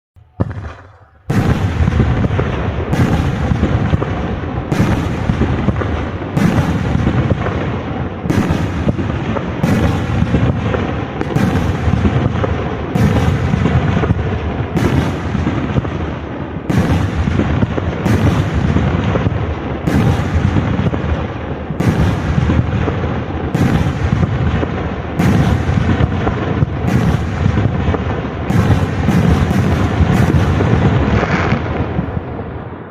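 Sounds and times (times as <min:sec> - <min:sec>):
fireworks banging: 0:00.2 - 0:32.9.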